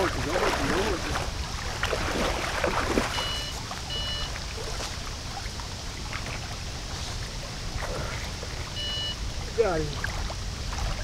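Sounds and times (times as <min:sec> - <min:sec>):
fish splashing in water: 0:00.0 - 0:08.9.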